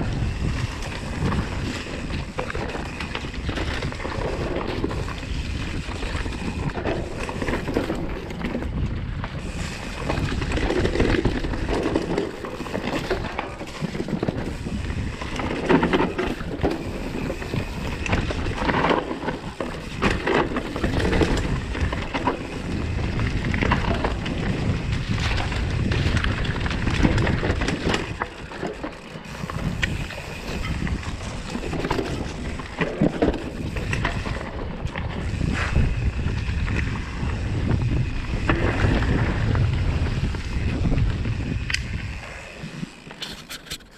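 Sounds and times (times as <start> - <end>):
bike knocks and rattles: 0.0 - 43.9
bike tyres crunching on dirt: 0.0 - 43.9
wind buffeting microphone: 0.0 - 43.9.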